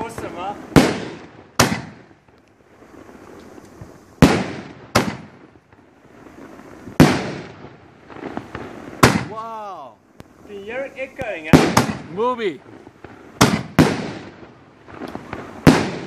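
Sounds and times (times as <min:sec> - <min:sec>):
fireworks bangs echoing: 0:00.0 - 0:16.0
low hiss: 0:00.0 - 0:16.0.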